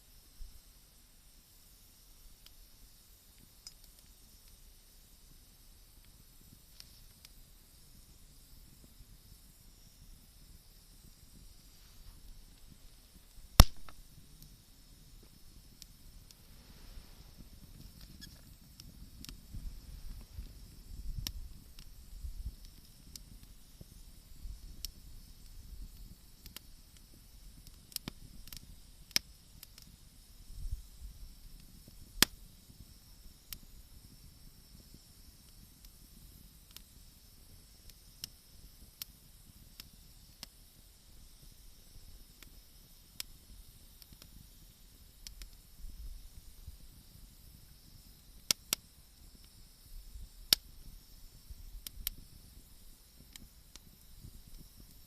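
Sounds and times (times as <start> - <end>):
faint steady hiss: 0.0 - 55.0
wood fire crackling: 0.1 - 55.0
burning wood popping: 2.4 - 55.0.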